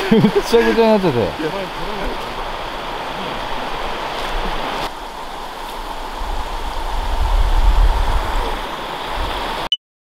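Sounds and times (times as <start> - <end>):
river rushing over rocks: 0.0 - 9.7.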